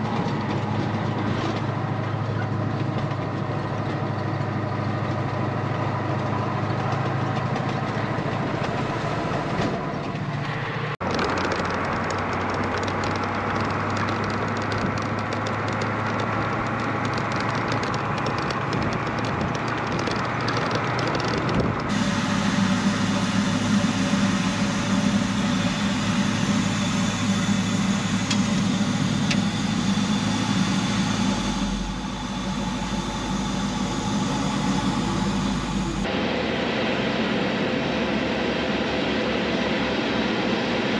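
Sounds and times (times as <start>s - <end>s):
vehicle engine and road drone: 0.0s - 40.9s.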